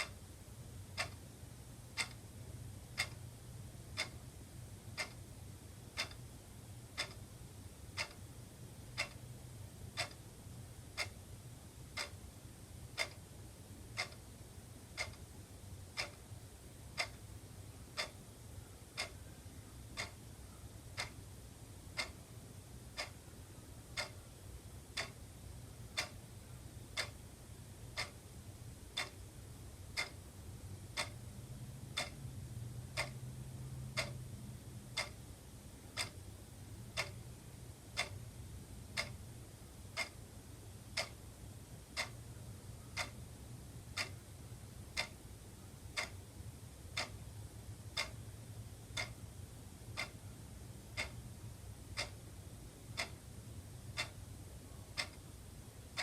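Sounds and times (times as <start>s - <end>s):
wall clock ticking: 0.0s - 29.2s, 29.8s - 56.0s
faint low hum: 0.0s - 56.0s.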